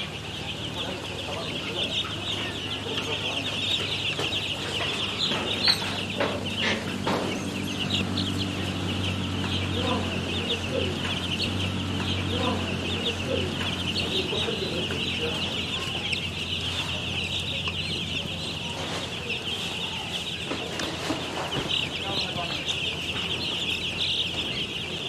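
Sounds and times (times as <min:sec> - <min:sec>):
chickens clucking: 0:00.0 - 0:25.0
steady low hum: 0:00.0 - 0:25.0.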